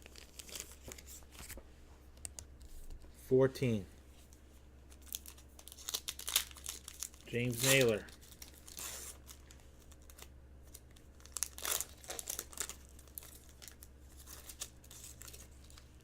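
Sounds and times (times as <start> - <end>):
trading cards and wrapper crinkling: 0.0 - 1.6, 4.3 - 16.0
faint low hum: 0.0 - 16.0.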